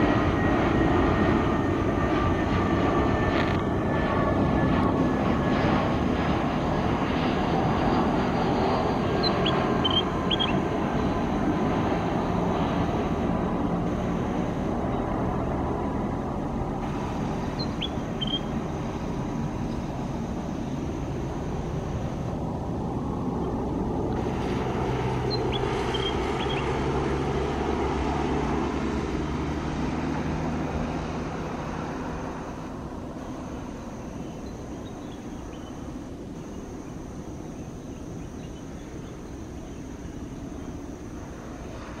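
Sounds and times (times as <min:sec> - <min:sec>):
jet engines rumbling: 0:00.0 - 0:42.0.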